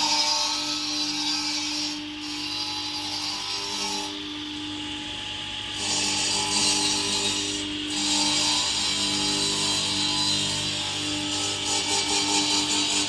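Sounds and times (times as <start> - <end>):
stone cutting machine grinding: 0.0 - 13.0.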